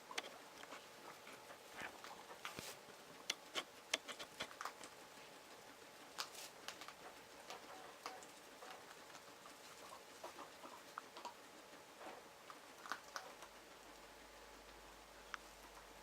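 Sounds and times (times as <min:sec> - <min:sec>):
guinea pigs clicking and tapping: 0:00.0 - 0:16.0.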